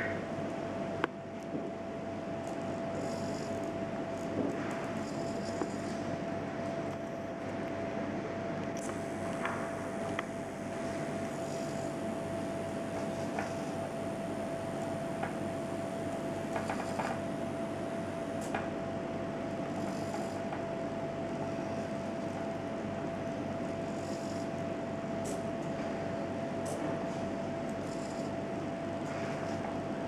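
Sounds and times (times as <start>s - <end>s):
servo motors humming and whining: 1.3s - 7.6s, 8.6s - 30.0s.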